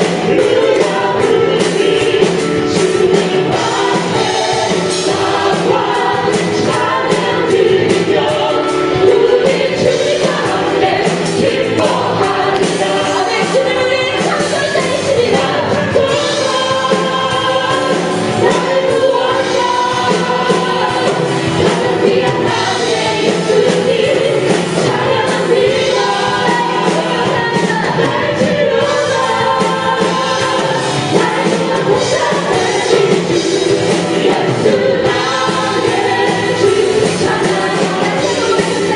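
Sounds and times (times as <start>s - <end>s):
group of singers: 0.0s - 38.9s
praise band playing: 0.0s - 38.9s.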